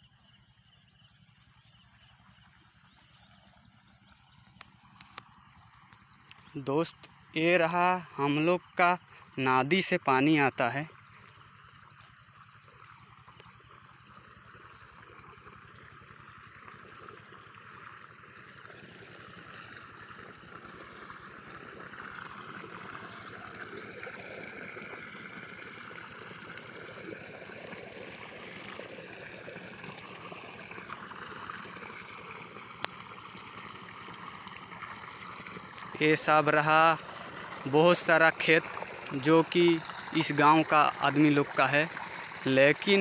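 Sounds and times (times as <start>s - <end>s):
water gushing from pipe: 2.2s - 43.0s.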